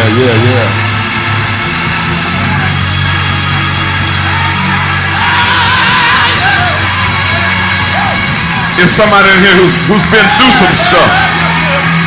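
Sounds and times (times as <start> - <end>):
congregation shouting and singing: 0.8 - 12.0.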